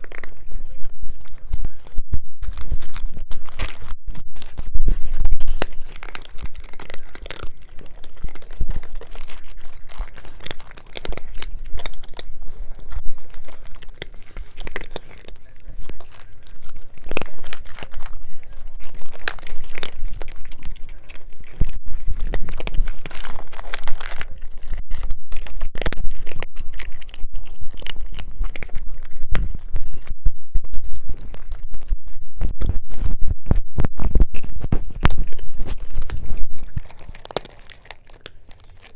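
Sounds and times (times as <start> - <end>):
cats chewing food: 0.0 - 38.9.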